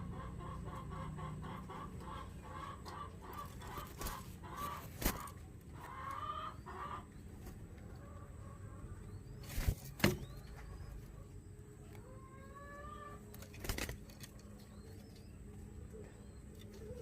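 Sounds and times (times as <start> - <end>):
dove nestling peeping: 0.0 - 17.0.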